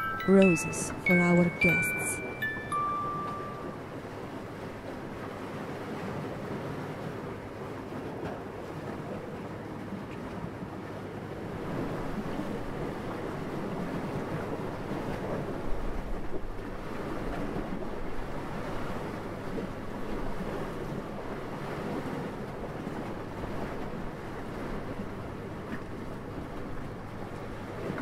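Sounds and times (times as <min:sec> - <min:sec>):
wind: 0:00.0 - 0:28.0.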